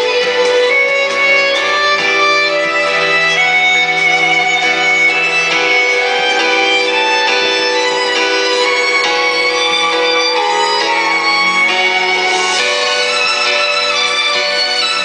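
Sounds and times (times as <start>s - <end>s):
violin melody over held notes: 0.0s - 15.0s.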